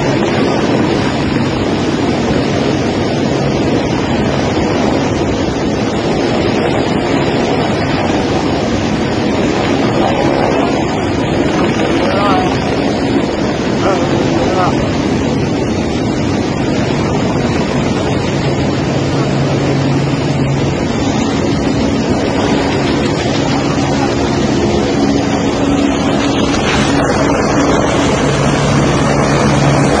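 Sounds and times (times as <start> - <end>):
helicopter engine and rotor: 0.0 - 30.0
wind noise on microphone: 0.0 - 30.0.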